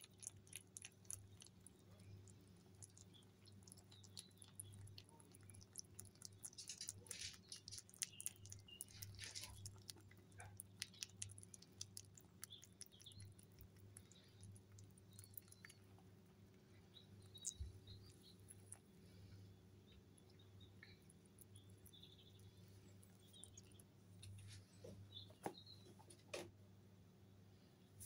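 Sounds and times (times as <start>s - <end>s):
rabbits nibbling: 0.0s - 26.5s
low steady hum: 0.0s - 28.0s.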